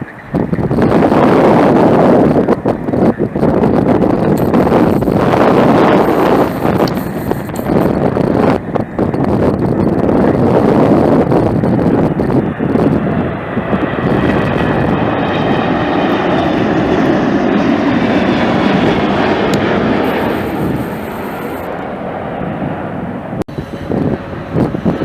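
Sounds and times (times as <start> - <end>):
jet airliner flying past: 0.0 - 25.0.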